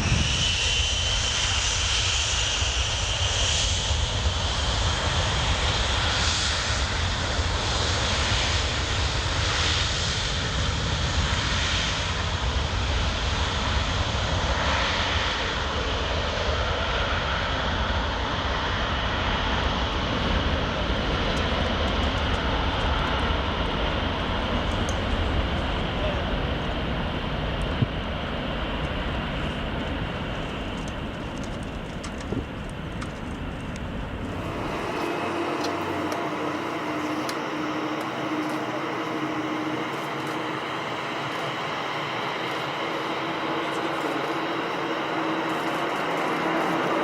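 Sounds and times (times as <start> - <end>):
jet engines whining: 0.0 - 47.0.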